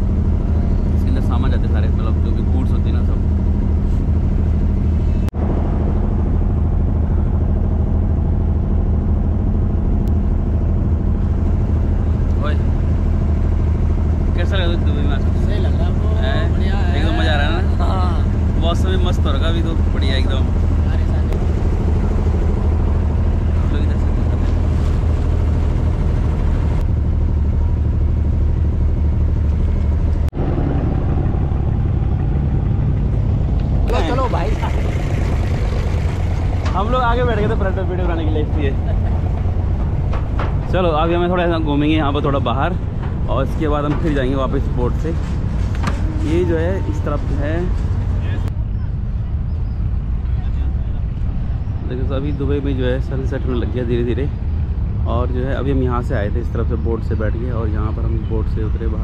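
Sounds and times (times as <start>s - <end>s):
boat diesel engine droning: 0.0s - 59.0s.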